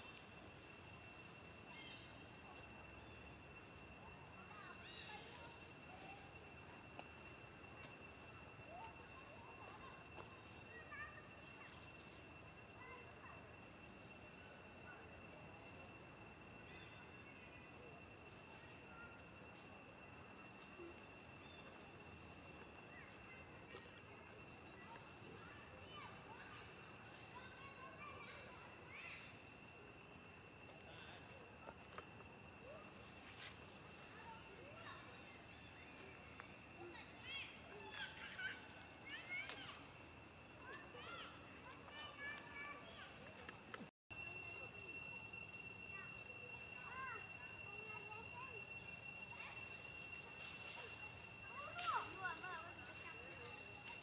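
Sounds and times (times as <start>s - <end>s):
high insect drone: 0.0s - 54.0s
steady high-pitched whine: 0.0s - 54.0s.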